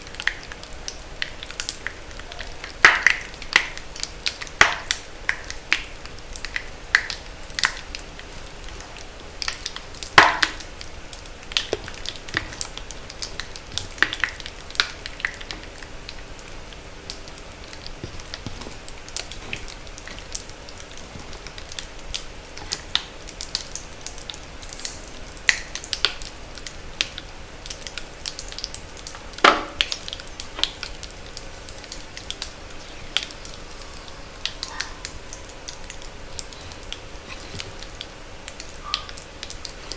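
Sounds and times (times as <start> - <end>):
chalk crackling and popping: 2.6 - 26.3, 27.1 - 39.8.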